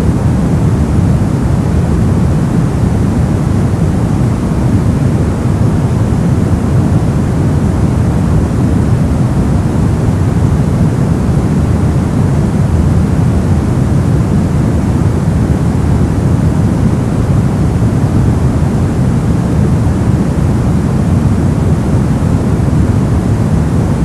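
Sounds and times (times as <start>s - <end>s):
brown noise hiss: 0.0s - 24.0s.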